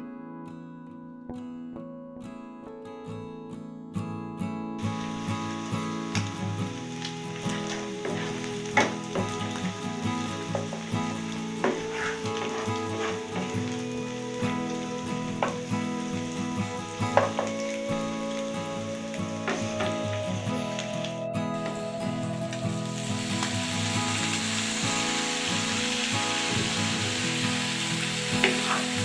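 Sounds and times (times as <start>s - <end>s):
food sizzling in a pan: 4.8s - 29.0s.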